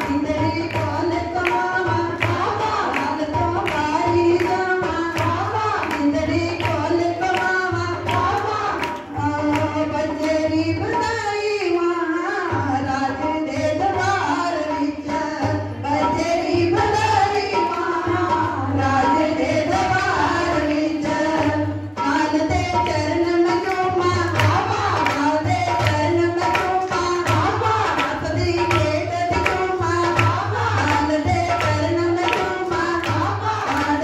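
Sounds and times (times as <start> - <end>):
hand drum beat: 0.0 - 11.2, 15.2 - 34.0
woman singing into a microphone: 0.0 - 34.0.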